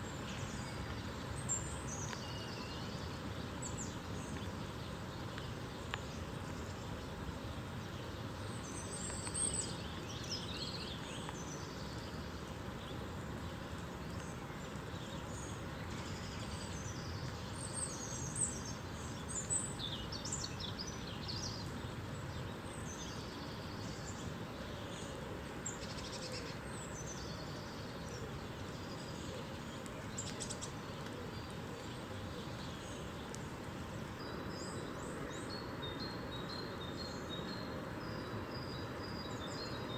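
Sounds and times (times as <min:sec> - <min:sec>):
songbirds chirping: 0:00.0 - 0:39.9
steady rain hiss: 0:00.0 - 0:39.9.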